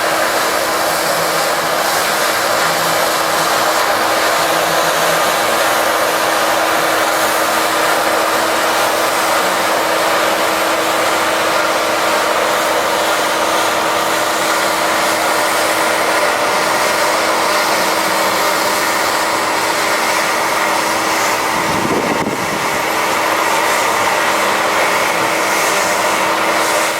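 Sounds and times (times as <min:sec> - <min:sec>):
combine harvester running: 0:00.0 - 0:26.9.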